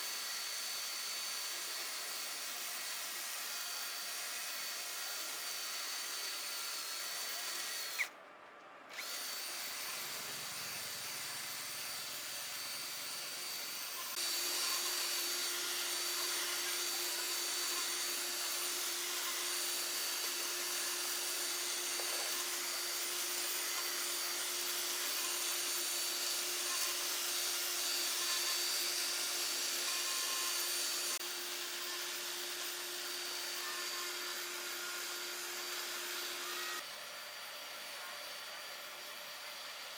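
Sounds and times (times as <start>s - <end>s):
power tool whining: 0.0s - 8.2s, 8.9s - 39.9s.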